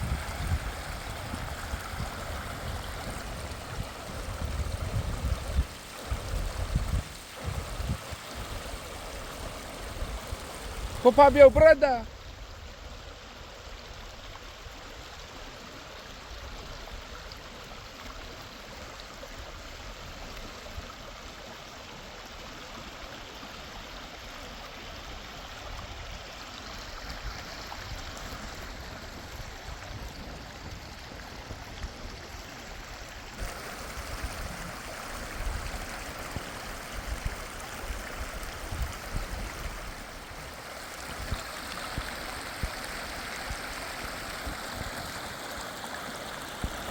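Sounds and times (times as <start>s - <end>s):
rushing river water: 0.0s - 46.9s.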